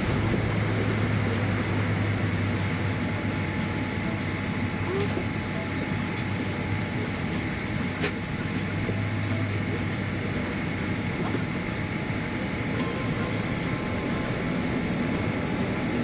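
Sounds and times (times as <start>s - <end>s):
aircraft cabin hum: 0.0s - 16.0s
faint steady whines: 0.0s - 16.0s.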